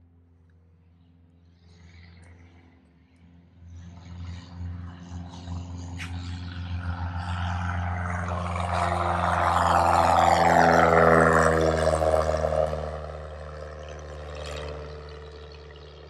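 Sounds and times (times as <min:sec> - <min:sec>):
light airplane engine drone: 0:00.0 - 0:16.0.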